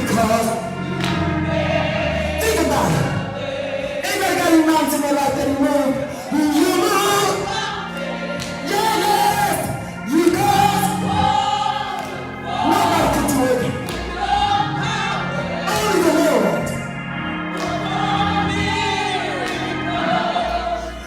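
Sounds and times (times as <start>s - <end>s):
gospel choir singing: 0.0s - 21.0s
instrumental accompaniment: 0.0s - 21.0s.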